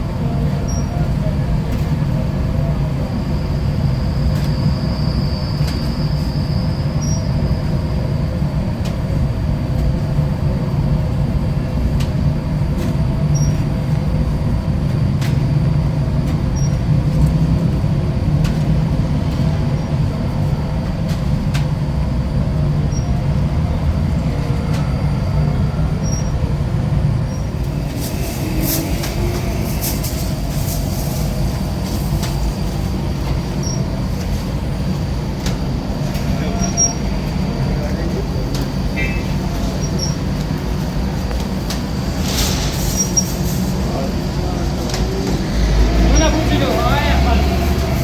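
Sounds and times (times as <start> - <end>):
low mechanical rumble: 0.0 - 48.0.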